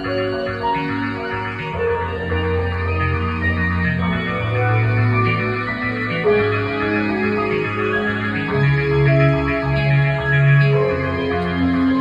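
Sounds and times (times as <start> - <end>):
guitar: 0.0 - 12.0
instrumental music with bass notes: 0.0 - 12.0.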